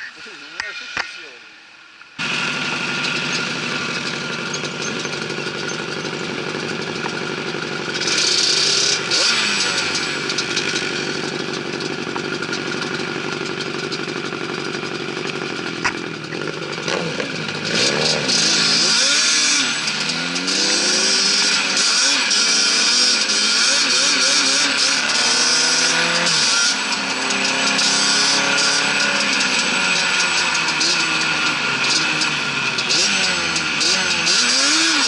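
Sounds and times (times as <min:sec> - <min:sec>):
quad engines droning: 0:00.0 - 0:35.0.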